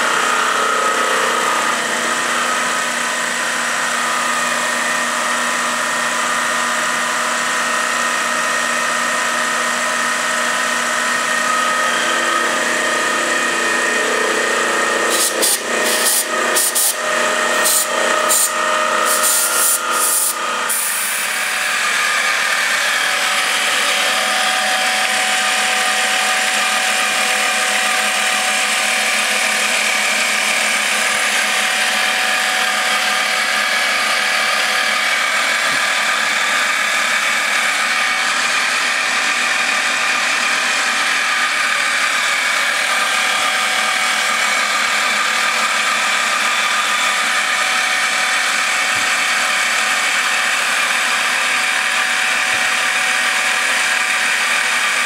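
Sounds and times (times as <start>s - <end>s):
lathe mechanical whine: 0.0s - 55.0s.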